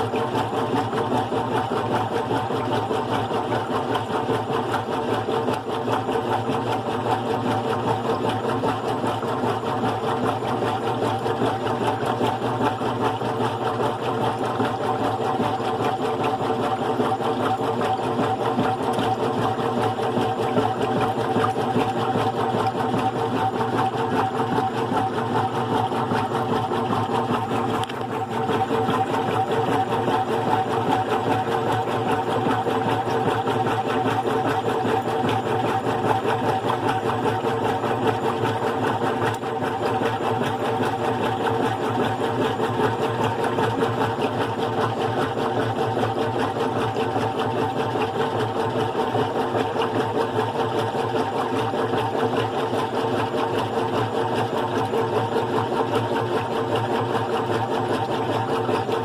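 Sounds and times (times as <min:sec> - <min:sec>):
washing machine humming and pulsing: 0:00.0 - 0:59.0.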